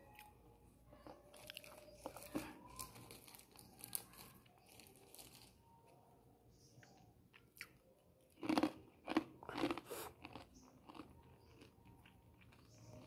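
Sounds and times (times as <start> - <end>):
crunchy snack chewing: 0.9 - 5.6, 6.8 - 13.0.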